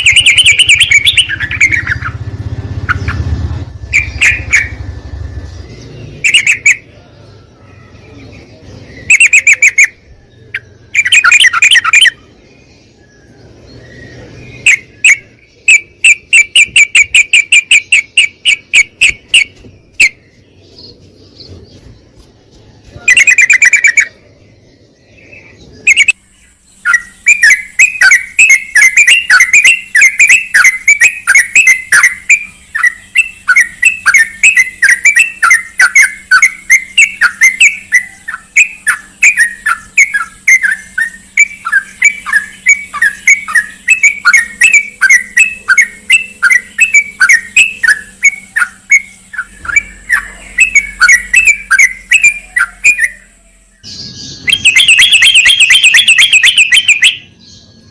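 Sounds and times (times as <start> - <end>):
bulbul chirping: 0.0 - 22.1, 22.9 - 24.2, 25.2 - 57.8.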